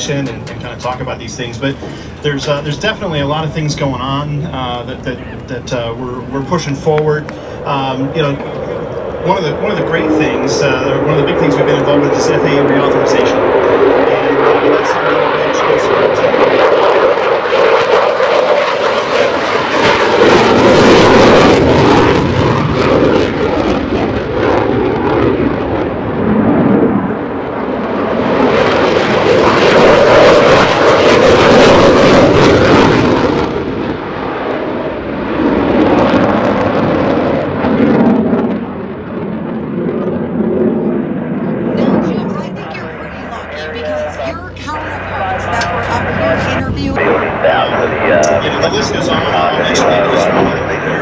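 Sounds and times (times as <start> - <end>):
jet fighter flying past: 0.0 - 51.0.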